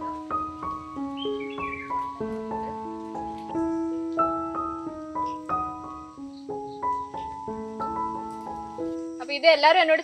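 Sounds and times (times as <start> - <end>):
slow piano notes: 0.0 - 9.8.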